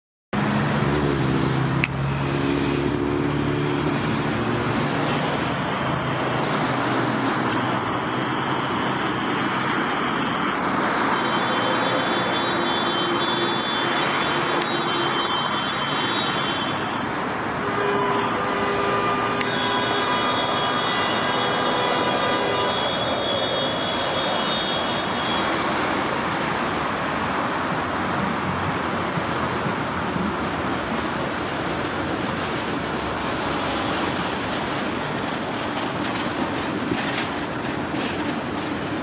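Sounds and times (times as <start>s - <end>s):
street traffic noise: 0.3s - 39.0s
tram passing: 0.4s - 39.0s.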